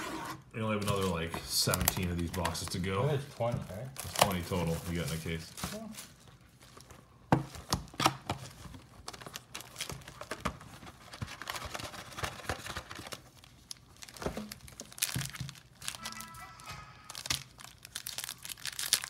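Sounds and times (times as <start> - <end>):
foil wrappers crinkling and tearing: 0.9 - 7.1, 7.8 - 19.0.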